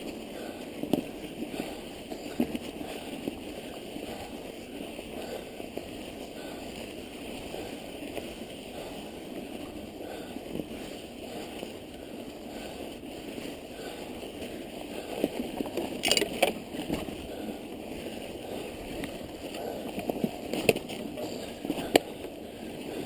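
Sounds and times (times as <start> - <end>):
bike rushing through snow: 0.0 - 23.0.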